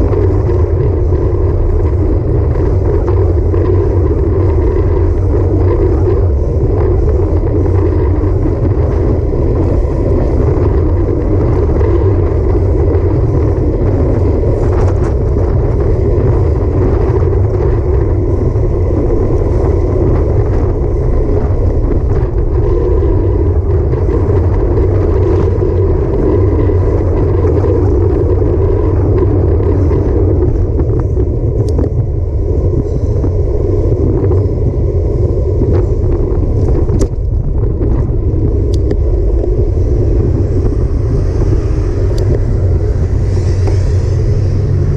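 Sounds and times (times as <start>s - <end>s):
road and tyre rumble: 0.0s - 44.9s
wind buffeting microphone: 0.0s - 44.9s.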